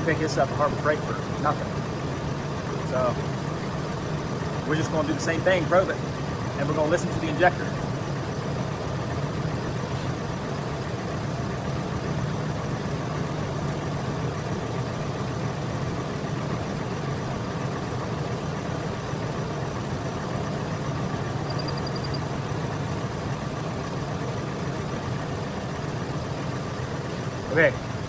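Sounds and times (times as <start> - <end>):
truck engine idling with misfire: 0.0 - 28.0.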